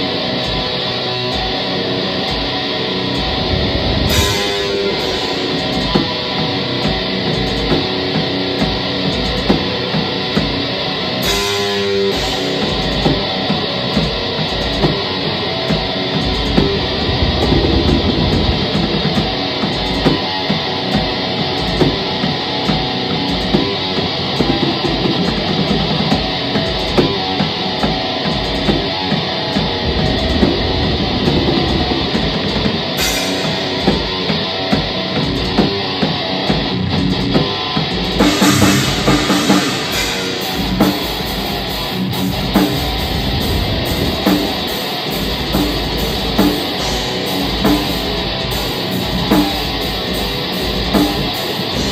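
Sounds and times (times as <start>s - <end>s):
distorted electric guitars: 0.0s - 51.9s
drum kit: 0.0s - 51.9s.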